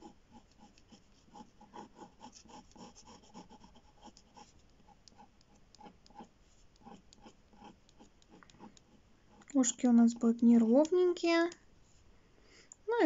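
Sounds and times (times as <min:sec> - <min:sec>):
ballpoint pen scratching on paper: 0:00.0 - 0:11.6.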